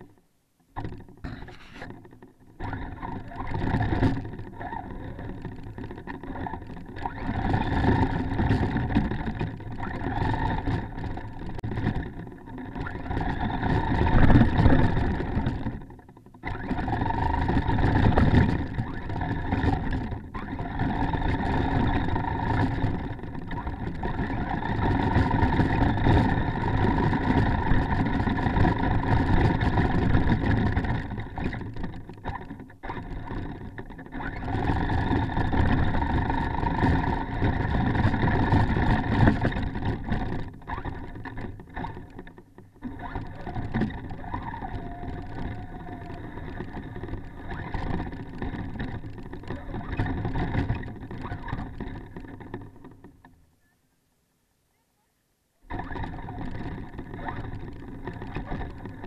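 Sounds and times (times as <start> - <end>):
toy truck motor whine: 0.9 - 15.8, 16.4 - 52.8, 55.7 - 59.0.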